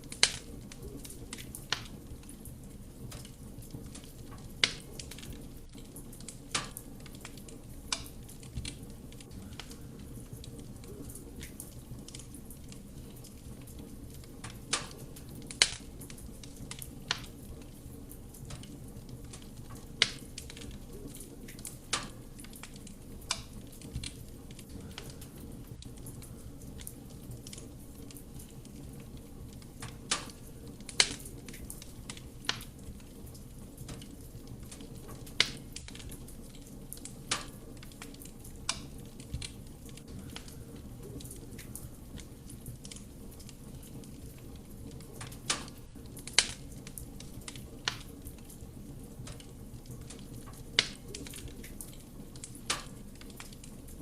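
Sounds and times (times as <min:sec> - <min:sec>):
burning logs crackling and popping: 0:00.0 - 0:54.0
fire rumbling: 0:00.0 - 0:54.0.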